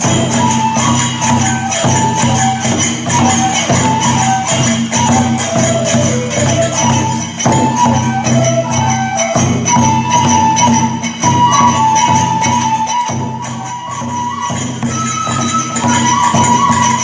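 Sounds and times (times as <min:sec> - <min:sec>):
drum beating steady rhythm: 0:00.0 - 0:17.0
hand cymbals clashing: 0:00.0 - 0:17.0
high flute melody: 0:00.0 - 0:17.0.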